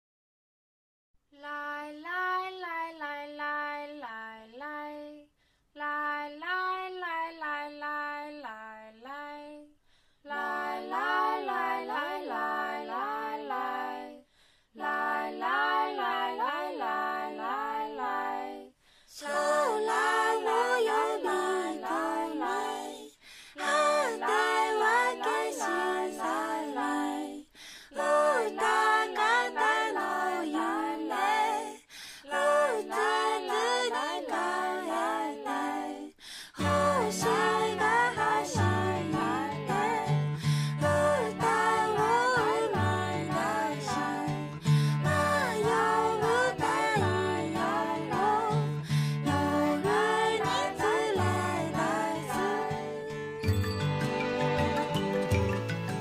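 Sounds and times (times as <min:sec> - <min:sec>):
women singing a cappella: 0:01.4 - 0:53.4.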